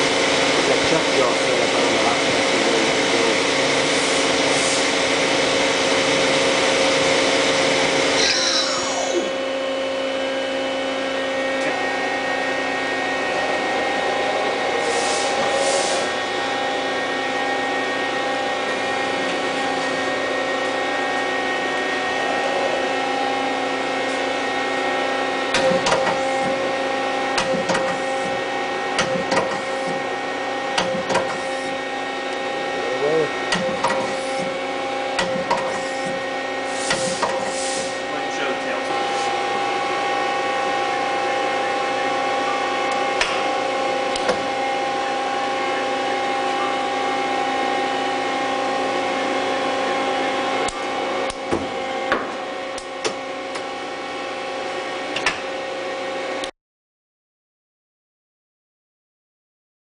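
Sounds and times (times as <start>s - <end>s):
lathe spindle whine: 0.0s - 25.5s, 26.1s - 36.8s, 37.4s - 56.5s
machine humming: 0.0s - 56.5s.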